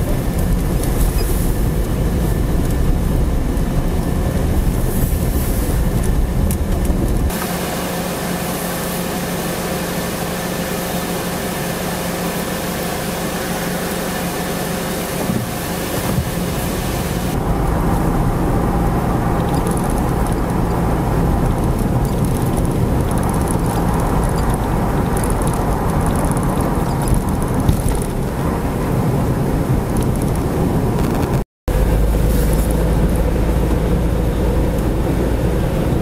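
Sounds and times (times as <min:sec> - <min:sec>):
car engine hum: 0:00.0 - 0:36.0
road noise: 0:00.0 - 0:36.0
tyres rumbling on snow: 0:00.0 - 0:36.0.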